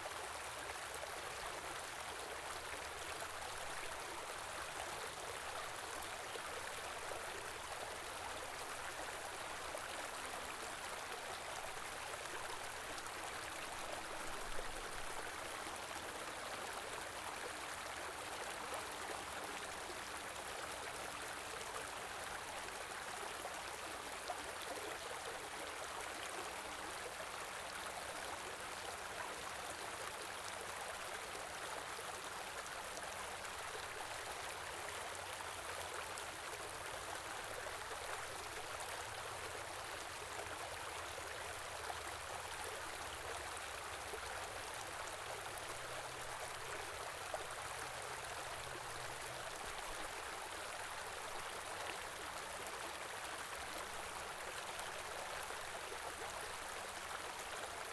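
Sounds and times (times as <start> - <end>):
stream flowing: 0.1 - 57.9.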